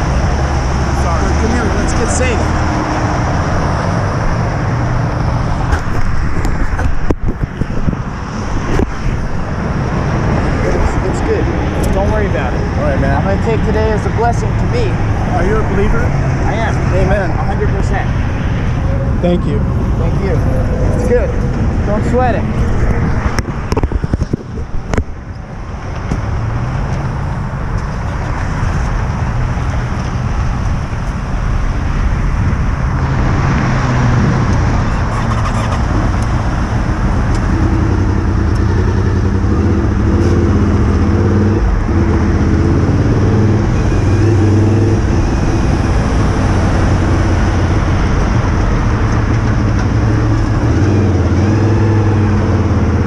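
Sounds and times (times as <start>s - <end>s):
steady rushing noise: 0.0s - 53.0s.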